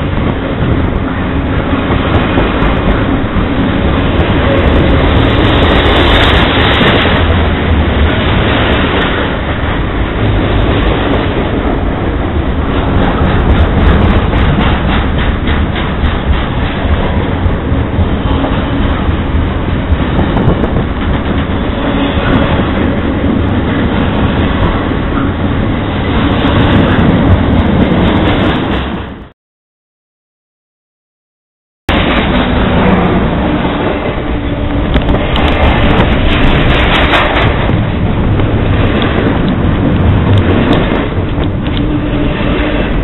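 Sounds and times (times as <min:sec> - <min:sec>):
freight train rumbling and rattling: 0:00.0 - 0:29.3, 0:31.9 - 0:43.0
rapid clicking of train wheels: 0:00.0 - 0:29.3, 0:31.9 - 0:43.0.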